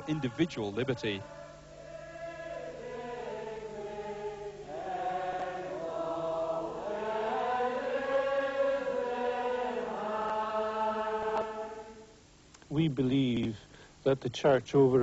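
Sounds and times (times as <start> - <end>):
congregation singing unaccompanied: 0.0 - 13.4.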